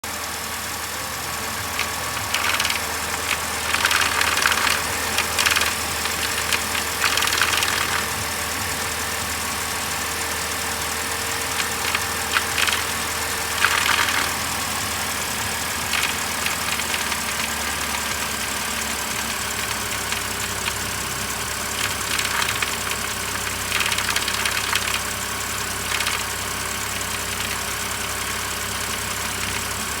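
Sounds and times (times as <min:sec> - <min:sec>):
car engine running: 0:00.0 - 0:30.0
engine clanking: 0:00.0 - 0:30.0.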